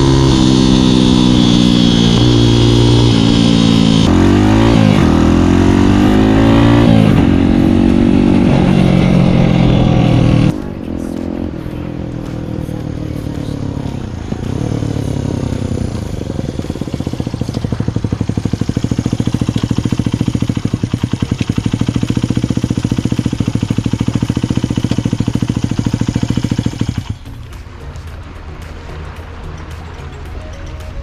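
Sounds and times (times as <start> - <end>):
small engine idling: 0.0 - 31.0.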